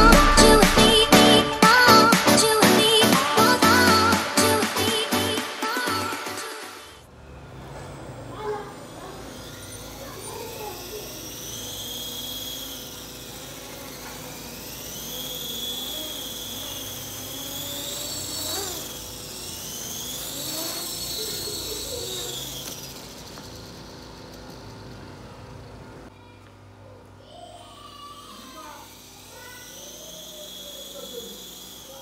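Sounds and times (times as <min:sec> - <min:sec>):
rc helicopter motor whine: 0:00.0 - 0:26.1, 0:27.7 - 0:32.0.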